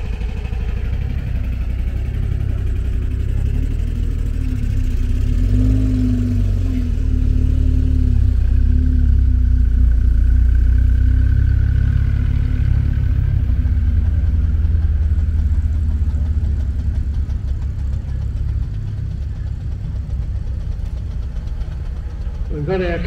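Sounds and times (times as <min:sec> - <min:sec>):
classic car engine running quietly: 0:00.0 - 0:23.0
small car engine driving past: 0:00.0 - 0:23.0.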